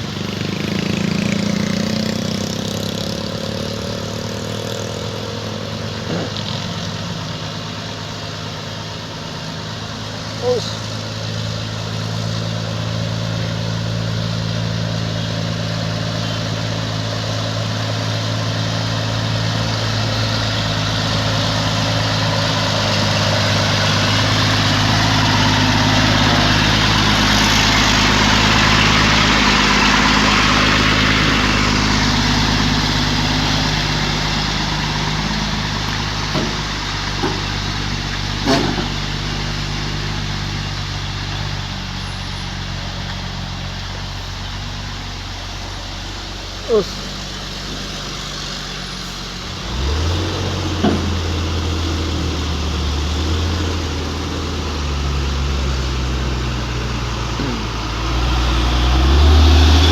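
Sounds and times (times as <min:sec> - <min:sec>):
passing vehicle road noise: 0:00.0 - 0:59.9
vehicle engine idling: 0:00.0 - 0:59.9.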